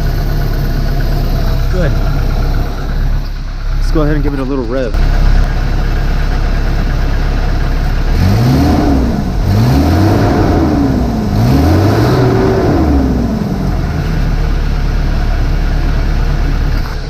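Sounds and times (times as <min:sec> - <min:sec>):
van engine revving and idling: 0:00.0 - 0:17.0.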